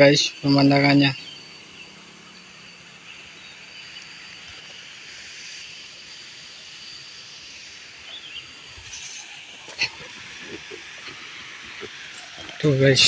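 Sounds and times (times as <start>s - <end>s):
faint steady tone: 0.0s - 13.0s
insects buzzing: 0.0s - 13.0s.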